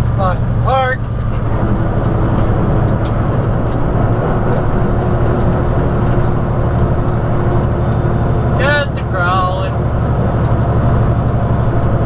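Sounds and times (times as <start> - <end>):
road noise: 0.0 - 12.0
truck engine drone: 0.0 - 12.0.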